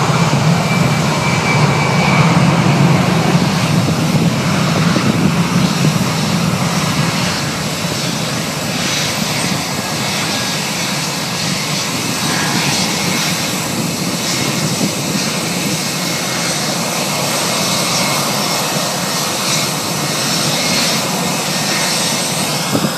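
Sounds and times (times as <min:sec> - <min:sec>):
jet engines at takeoff: 0:00.0 - 0:22.9.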